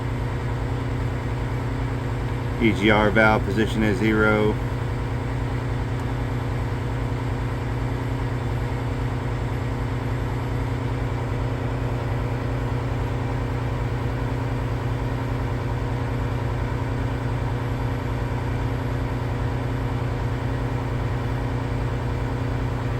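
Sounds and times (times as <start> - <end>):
diesel engine running steadily: 0.0 - 22.9.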